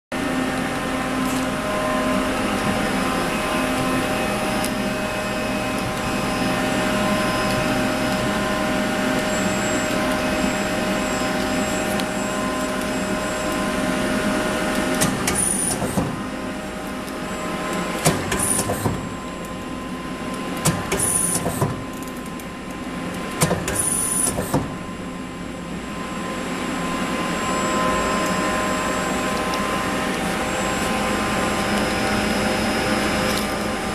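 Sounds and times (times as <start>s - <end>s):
lathe motor whine and hum: 0.1s - 33.9s.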